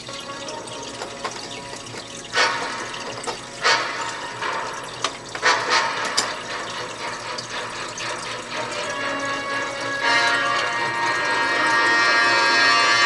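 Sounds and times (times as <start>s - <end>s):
trickle of running water: 0.0s - 13.0s
water splashing in fish tank: 0.0s - 13.0s.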